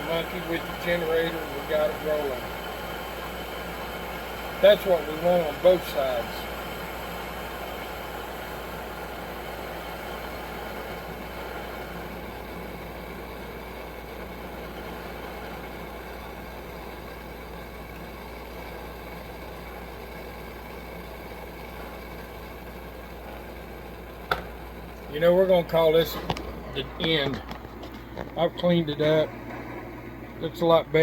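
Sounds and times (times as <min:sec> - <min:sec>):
camping stove flame rushing: 0:00.0 - 0:31.0.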